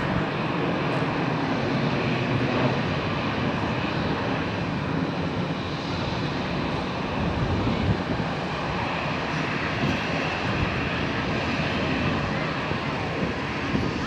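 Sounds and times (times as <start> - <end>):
aircraft engine noise: 0.0 - 14.0.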